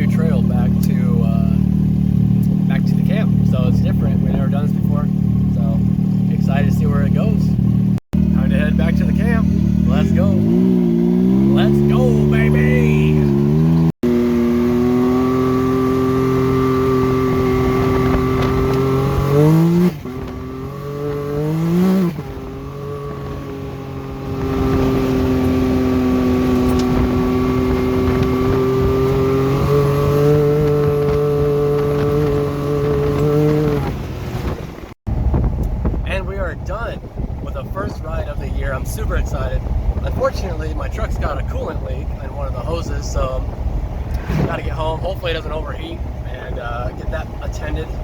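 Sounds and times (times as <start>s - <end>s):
turbocharged engine revving: 0.0s - 48.0s.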